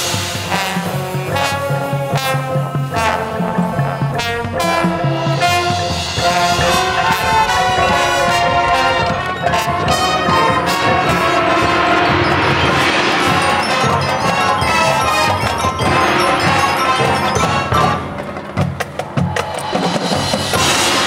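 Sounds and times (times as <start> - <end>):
brass chords: 0.0 - 18.6, 20.2 - 21.0.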